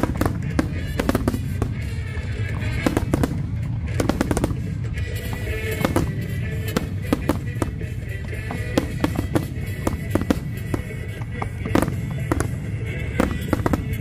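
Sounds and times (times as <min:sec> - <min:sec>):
fireworks bangs and crackles: 0:00.0 - 0:14.0
music playing: 0:00.0 - 0:14.0
steady low rumble: 0:00.0 - 0:14.0.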